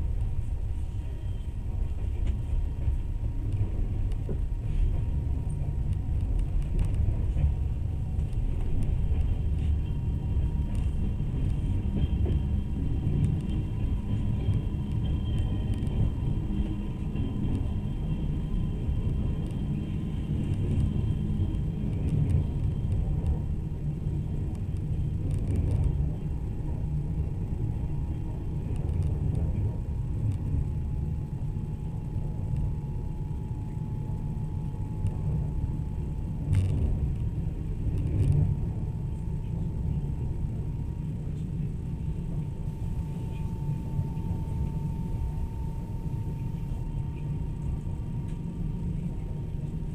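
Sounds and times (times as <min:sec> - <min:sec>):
faint steady whine: 0:00.0 - 0:49.9
train rumble inside carriage: 0:00.0 - 0:49.9.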